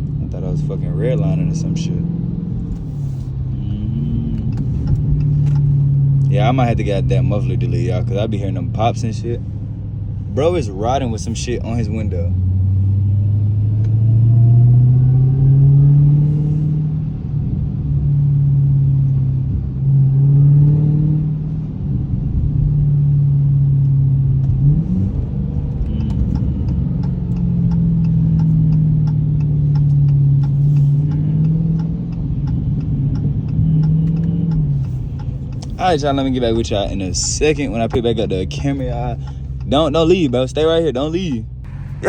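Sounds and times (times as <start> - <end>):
car engine from inside cabin: 0.0 - 42.0.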